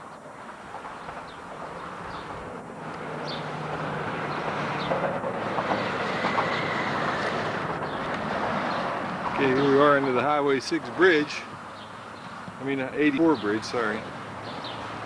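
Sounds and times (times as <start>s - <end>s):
traffic rushing overhead: 0.0s - 15.0s.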